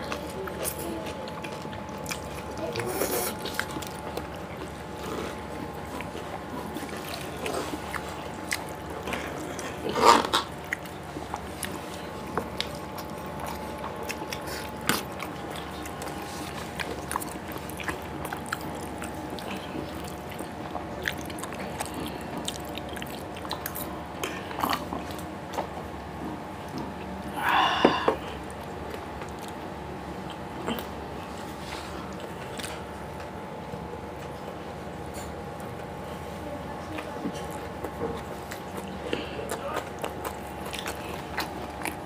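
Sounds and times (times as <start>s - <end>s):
chewing and lip smacking: 0.0s - 27.4s, 28.2s - 42.0s
faint steady hum: 0.0s - 42.0s.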